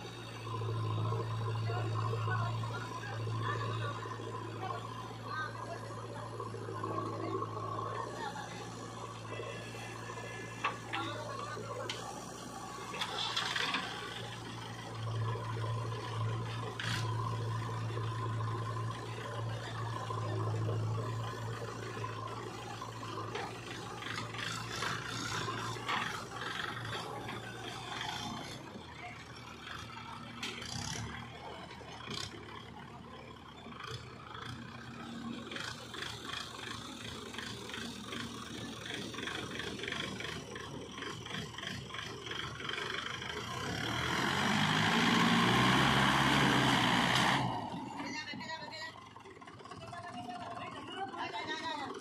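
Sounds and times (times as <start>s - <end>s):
diesel engines running: 0.0s - 52.0s
tractor engine revving: 0.0s - 52.0s.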